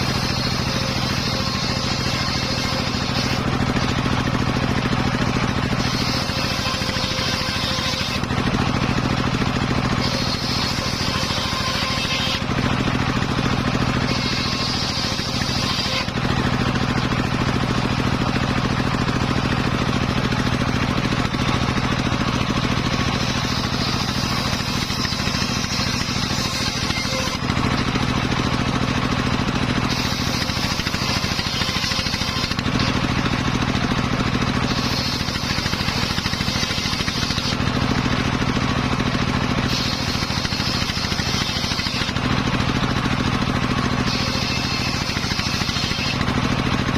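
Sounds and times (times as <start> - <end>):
circular saw cutting wood: 0.0 - 46.9.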